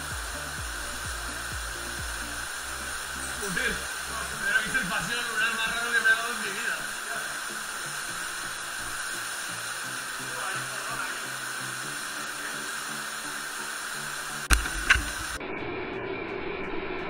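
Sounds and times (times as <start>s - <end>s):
stream water rushing over rocks: 0.0s - 15.4s
faint music: 0.0s - 17.0s.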